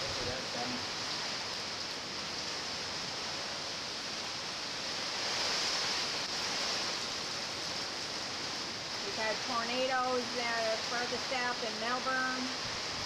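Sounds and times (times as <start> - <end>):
heavy rain: 0.0 - 13.0
hurricane wind: 0.0 - 13.0.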